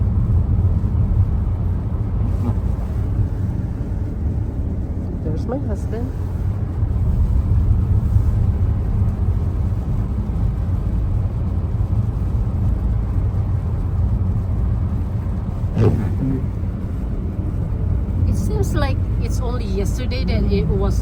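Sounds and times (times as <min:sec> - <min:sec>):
car driving on highway: 0:00.0 - 0:21.0.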